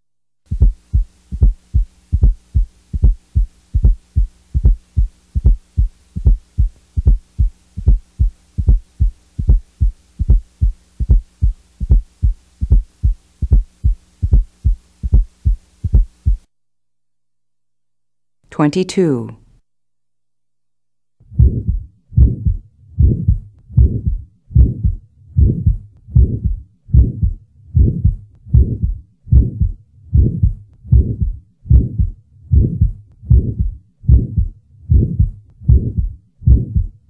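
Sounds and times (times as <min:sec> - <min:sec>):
faint steady hum: 0:00.1 - 0:37.0
heartbeat thumps: 0:00.5 - 0:16.5, 0:21.2 - 0:37.0.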